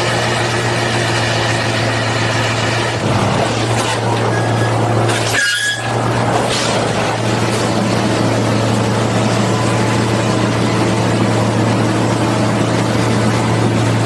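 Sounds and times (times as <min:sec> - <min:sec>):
diesel engine drone: 0:00.0 - 0:14.0.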